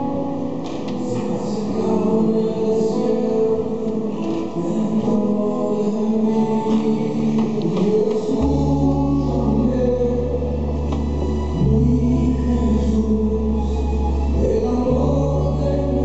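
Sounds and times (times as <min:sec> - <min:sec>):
worship song singing: 0:00.0 - 0:16.0.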